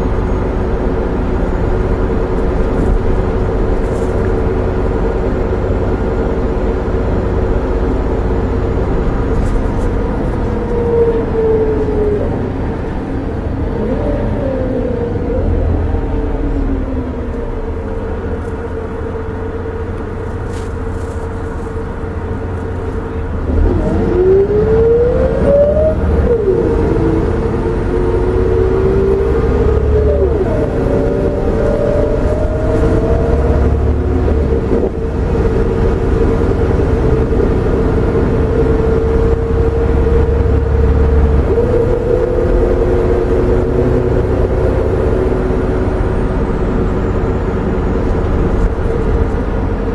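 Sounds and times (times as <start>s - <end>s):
diesel bus engine: 0.0s - 49.9s.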